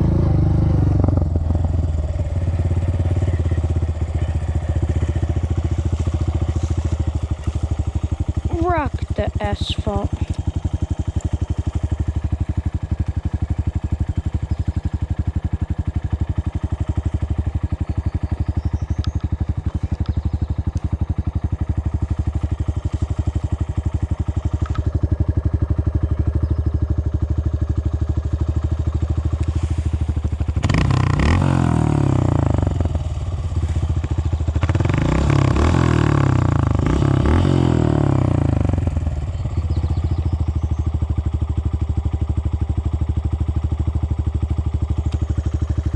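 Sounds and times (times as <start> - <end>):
dirt bike engine revving: 0.0 - 26.5, 28.3 - 40.6.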